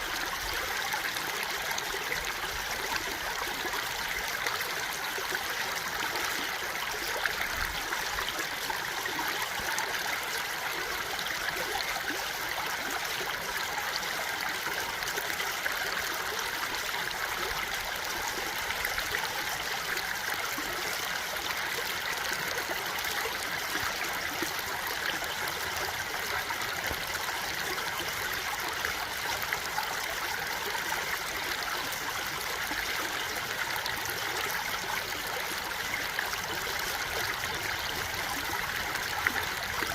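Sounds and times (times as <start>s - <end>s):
water babbling over rocks: 0.0s - 39.9s.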